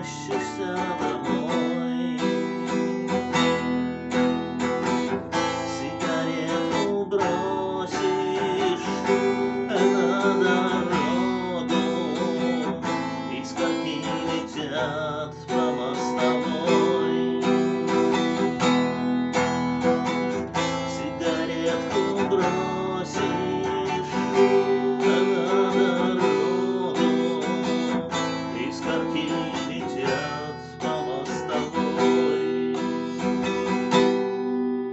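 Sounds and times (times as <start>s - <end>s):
acoustic guitar music: 0.0s - 34.9s.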